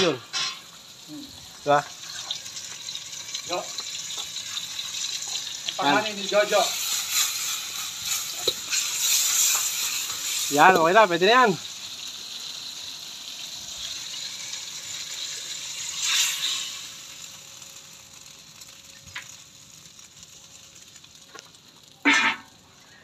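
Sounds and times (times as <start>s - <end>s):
egg and tomato sizzling: 0.0s - 23.0s.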